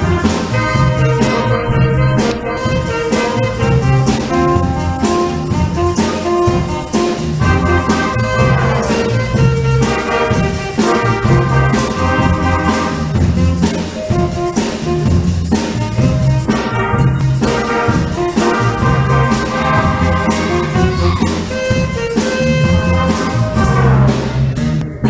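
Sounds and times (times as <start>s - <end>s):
brass and woodwind chords: 0.0s - 25.0s
steady drum beat: 0.0s - 25.0s.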